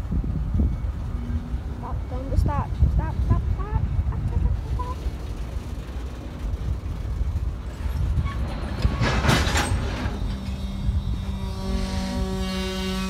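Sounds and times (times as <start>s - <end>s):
steady low hum: 0.0s - 13.0s
train wheels rumbling on rail: 0.0s - 13.0s.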